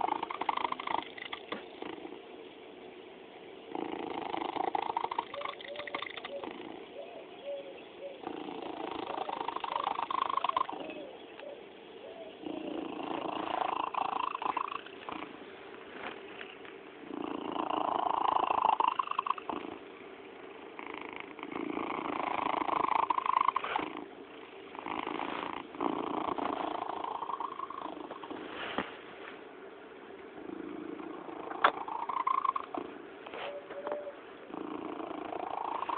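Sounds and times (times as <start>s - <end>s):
cat purring: 0.0s - 7.3s, 8.1s - 11.2s, 12.2s - 35.9s.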